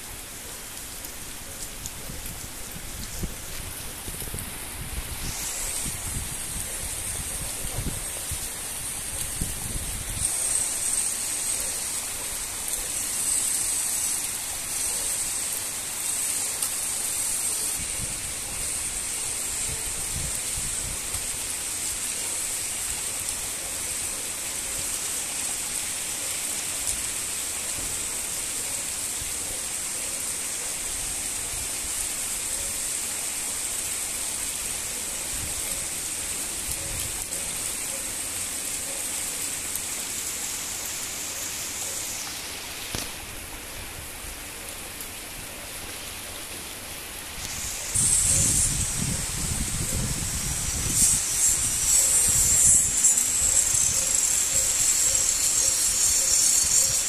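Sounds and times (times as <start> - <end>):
heavy rain on wet ground: 0.0 - 57.0.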